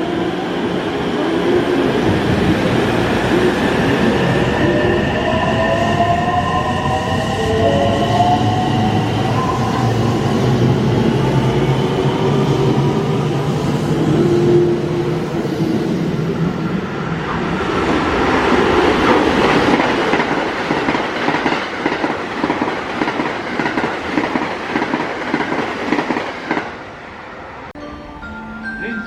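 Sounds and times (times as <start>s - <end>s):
electric train humming: 0.0s - 29.0s.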